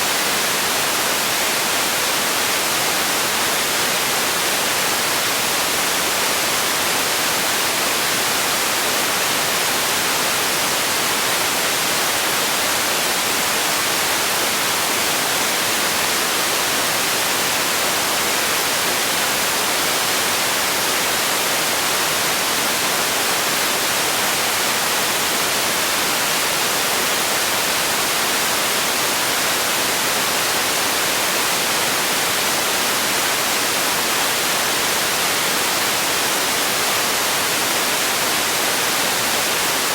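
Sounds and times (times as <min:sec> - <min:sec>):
synthetic white noise hiss: 0:00.0 - 0:39.9.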